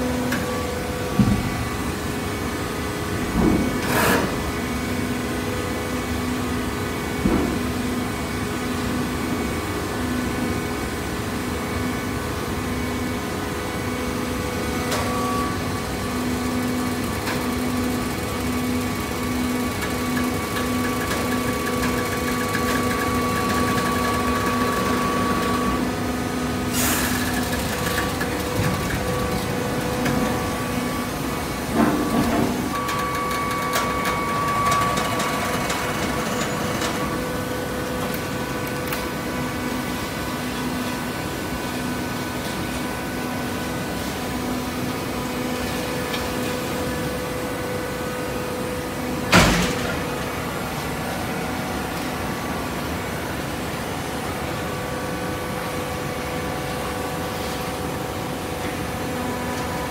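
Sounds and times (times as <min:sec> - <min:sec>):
baler machine hum and whine: 0:00.0 - 0:59.9.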